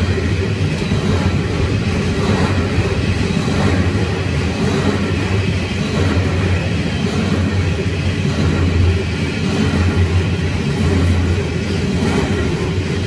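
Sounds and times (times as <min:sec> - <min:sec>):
freight wagons rolling on rails: 0:00.0 - 0:13.0.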